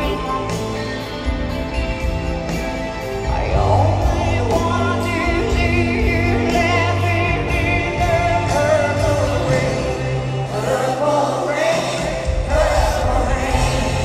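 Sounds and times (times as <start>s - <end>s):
band bass and keyboard chords: 0.0s - 14.0s.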